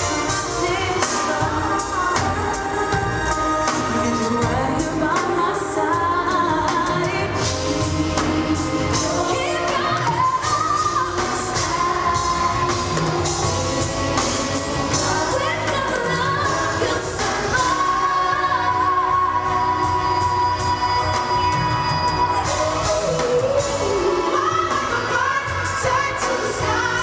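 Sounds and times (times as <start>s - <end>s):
band accompaniment: 0.0s - 27.0s
person singing gospel ballad: 0.0s - 27.0s.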